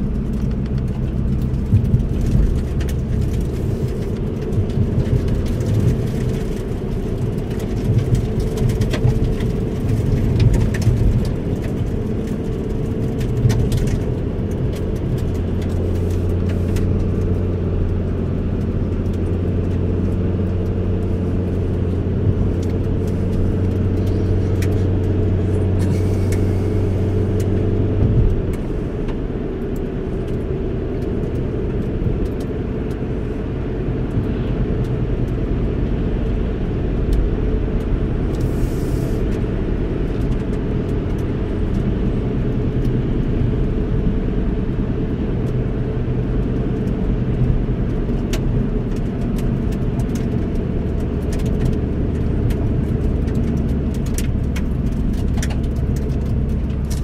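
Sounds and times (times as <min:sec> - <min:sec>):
steady low hum: 0:00.0 - 0:48.7
engine and tyre rumble: 0:00.0 - 0:57.0.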